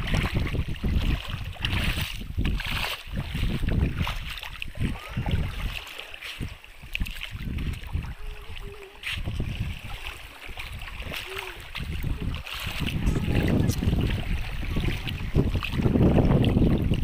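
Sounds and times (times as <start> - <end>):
seawater washing at the shore: 0.0 - 17.0
wind rumbling on microphone: 0.0 - 17.0.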